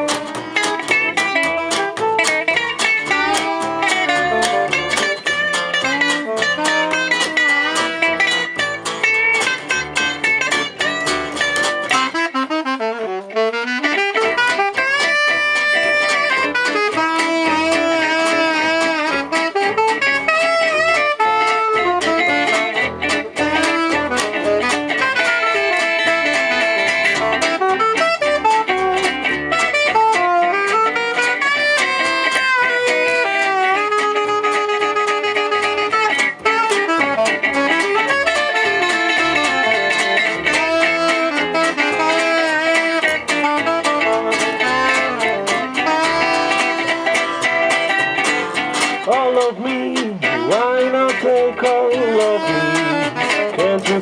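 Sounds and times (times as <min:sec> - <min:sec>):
plucked guitar accompaniment: 0:00.0 - 0:54.0.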